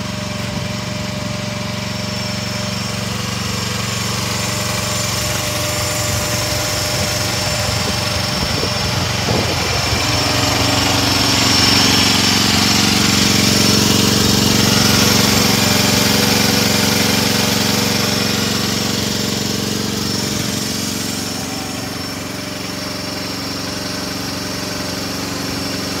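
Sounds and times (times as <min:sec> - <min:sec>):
small excavator engine running: 0:00.0 - 0:26.0.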